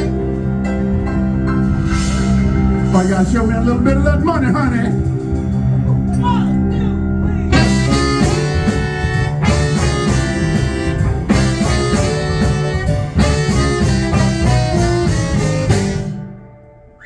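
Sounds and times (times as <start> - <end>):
live blues band playing: 0.0 - 16.8.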